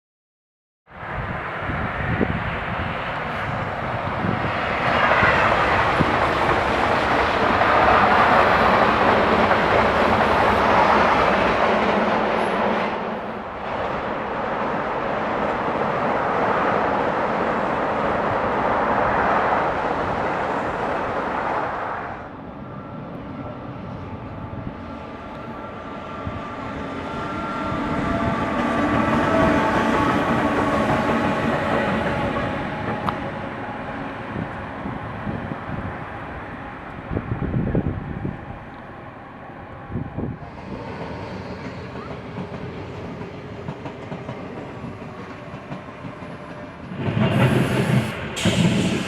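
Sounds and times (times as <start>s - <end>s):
train wheels rumbling on rails: 1.1s - 49.0s.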